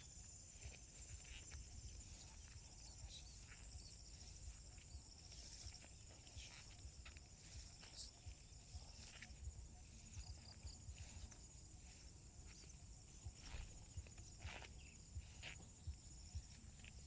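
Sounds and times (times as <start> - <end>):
footsteps scuffing on ground: 0.0 - 17.0
insects chirring: 0.0 - 17.0.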